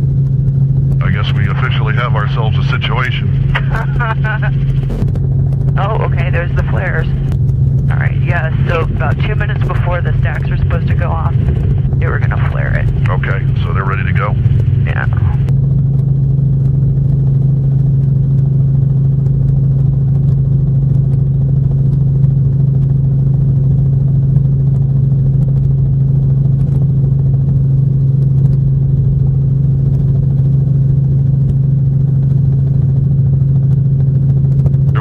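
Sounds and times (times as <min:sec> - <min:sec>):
helicopter cabin drone: 0:00.0 - 0:35.0.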